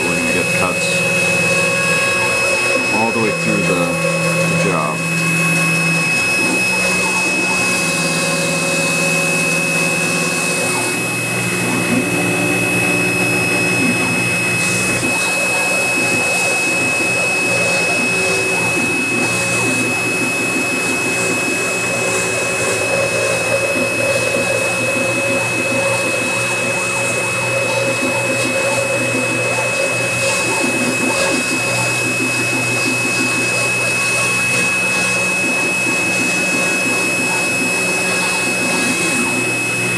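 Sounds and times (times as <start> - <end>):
spindle motor high whine: 0.0 - 39.9
stepper motors humming: 0.0 - 39.9.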